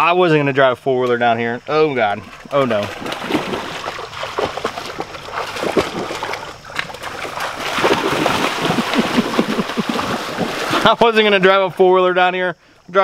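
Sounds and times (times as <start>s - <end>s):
water splashing and sloshing: 1.0s - 11.6s.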